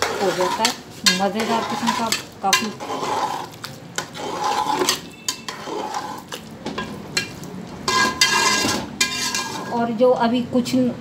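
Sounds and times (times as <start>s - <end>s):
metal spatula scraping pot: 0.0s - 9.9s.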